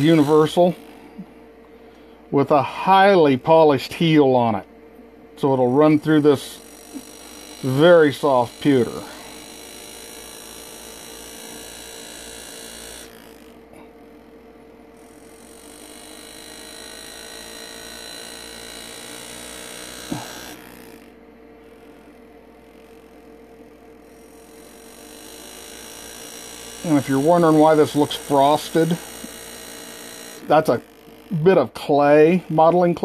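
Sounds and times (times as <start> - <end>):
air graver buzzing: 0.0 - 33.0
steady hum: 0.0 - 33.0.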